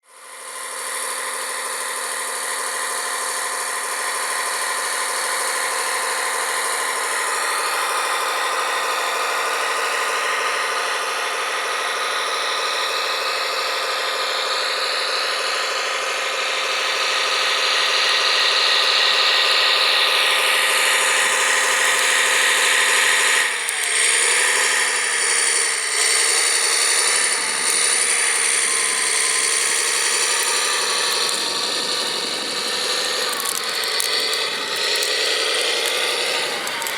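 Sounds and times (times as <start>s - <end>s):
electric motors whining: 0.1s - 36.9s.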